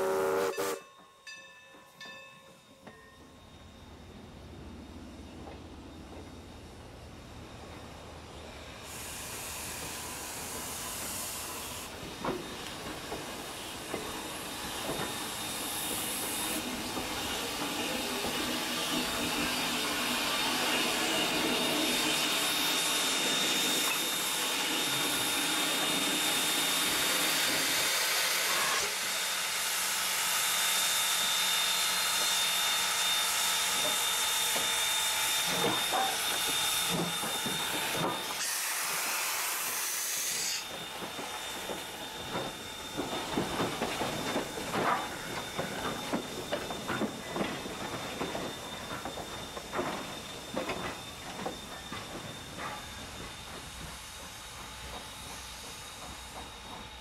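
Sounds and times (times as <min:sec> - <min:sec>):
steam locomotive hissing: 0:00.0 - 0:01.4, 0:02.9 - 0:57.0.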